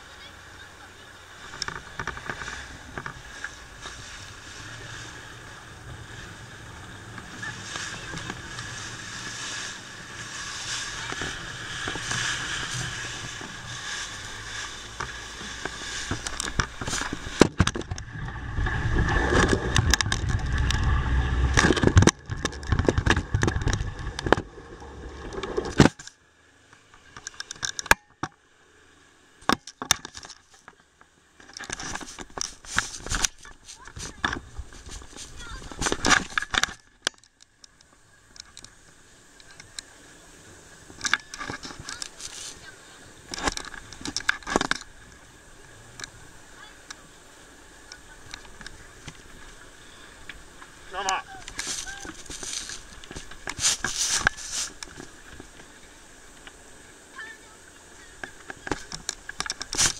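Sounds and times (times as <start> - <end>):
boat engine and water hum: 0.0 - 59.9.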